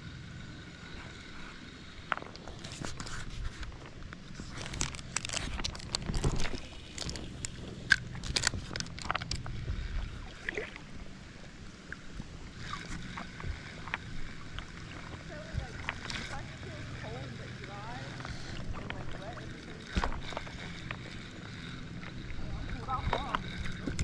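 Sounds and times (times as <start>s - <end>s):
small splashes and clicks: 2.0s - 24.0s
creek water sloshing: 2.4s - 24.0s.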